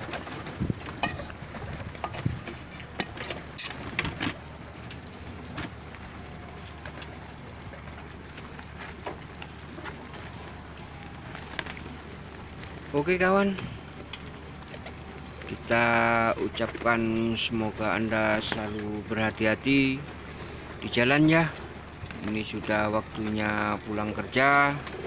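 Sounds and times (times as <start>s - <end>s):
faint steady hiss: 0.0s - 25.0s
pigeons pecking grain: 0.0s - 25.0s.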